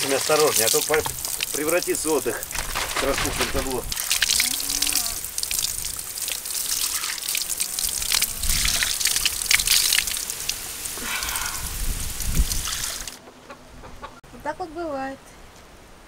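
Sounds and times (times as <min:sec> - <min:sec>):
water pouring from a spout: 0:00.0 - 0:13.2
water splashing on a face: 0:00.0 - 0:13.2.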